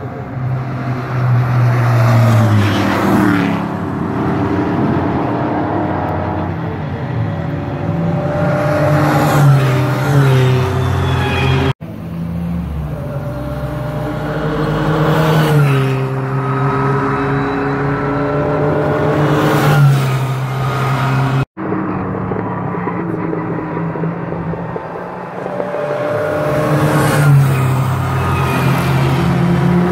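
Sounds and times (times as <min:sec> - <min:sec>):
racing cars passing: 0:00.0 - 0:29.9.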